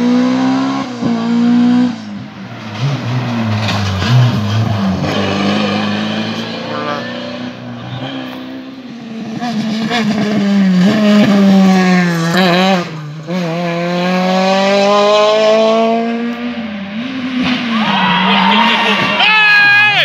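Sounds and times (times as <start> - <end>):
rally car engine accelerating: 0.0 - 19.2.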